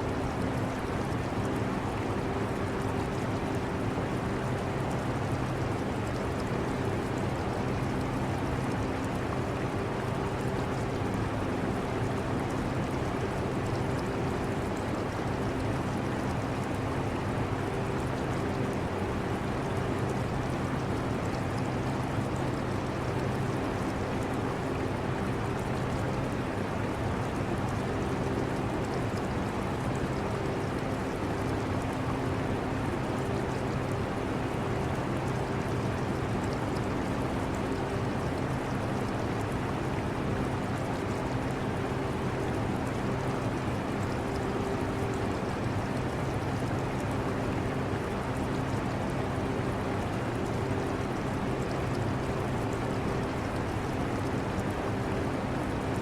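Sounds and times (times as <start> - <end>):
aquarium water trickling and bubbling: 0.0 - 56.0.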